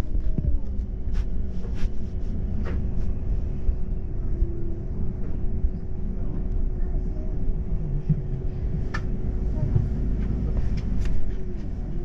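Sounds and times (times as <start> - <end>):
bus drivetrain and road rumble: 0.0 - 12.0
constant hum: 0.0 - 12.0.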